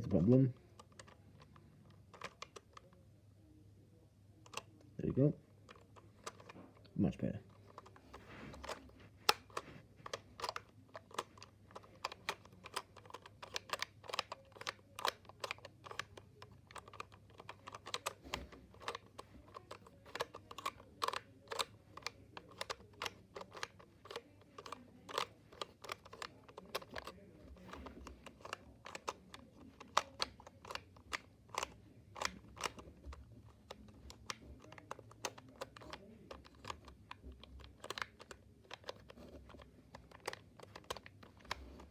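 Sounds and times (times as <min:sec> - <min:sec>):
plastic puzzle tiles clicking: 0:00.5 - 0:03.0, 0:05.7 - 0:41.9.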